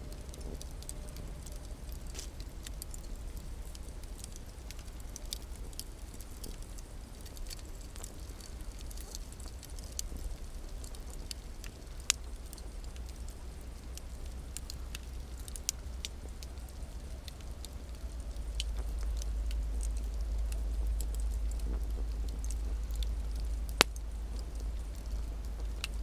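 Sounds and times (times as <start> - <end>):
low rumble: 0.0 - 8.8, 9.4 - 26.0
burning wood popping: 0.0 - 26.0
campfire crackling: 0.0 - 26.0.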